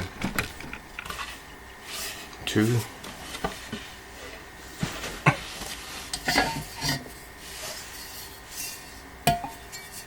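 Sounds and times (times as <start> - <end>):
parts rubbing and shuffling: 0.3 - 10.0.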